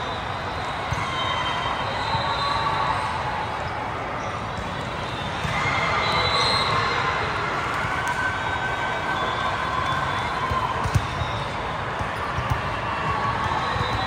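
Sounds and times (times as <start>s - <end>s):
crowd voices: 0.0s - 14.0s.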